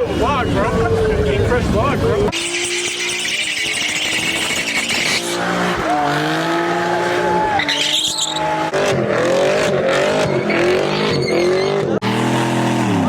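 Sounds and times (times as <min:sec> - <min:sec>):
car engine revving hard: 0:00.0 - 0:13.0
tires squealing and skidding: 0:00.0 - 0:13.0.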